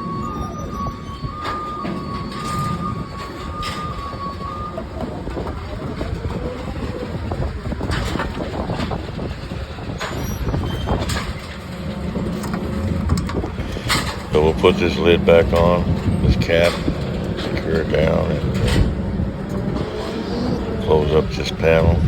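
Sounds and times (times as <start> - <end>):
low mechanical rumble of machinery: 0.0 - 22.0
steady mechanical whine: 0.0 - 22.0.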